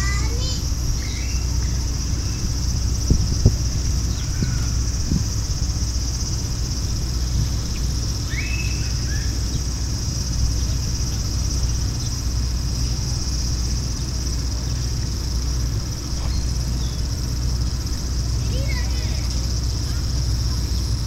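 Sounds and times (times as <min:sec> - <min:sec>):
cicadas droning: 0:00.0 - 0:21.0
low rumble: 0:00.0 - 0:21.0.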